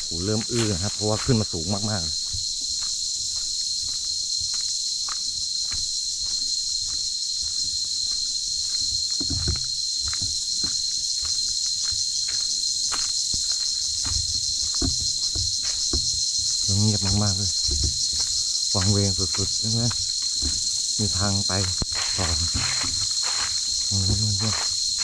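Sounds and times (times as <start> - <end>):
footsteps on concrete: 0.0 - 25.0
insects chorus: 0.0 - 25.0.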